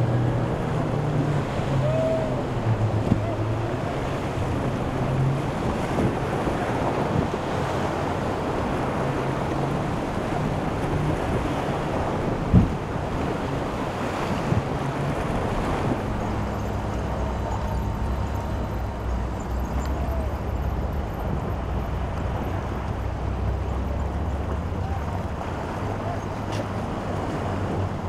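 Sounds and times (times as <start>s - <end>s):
boat engines droning: 0.0s - 28.0s
waves: 0.0s - 28.0s
wind on microphone: 0.0s - 28.0s.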